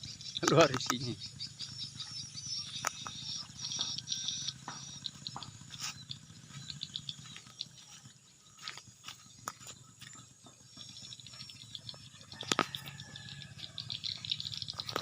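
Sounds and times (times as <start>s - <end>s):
swiftlets chirping and clicking: 0.0s - 15.0s.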